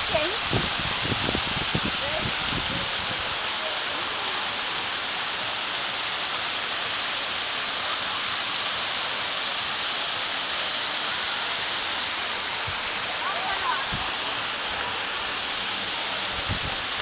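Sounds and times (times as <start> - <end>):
waterfall splashing: 0.0 - 17.0.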